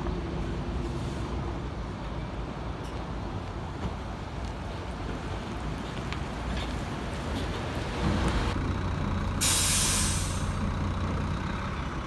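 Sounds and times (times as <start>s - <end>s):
bus engine low rumble: 0.0s - 12.0s
tyres on wet road: 0.0s - 12.0s.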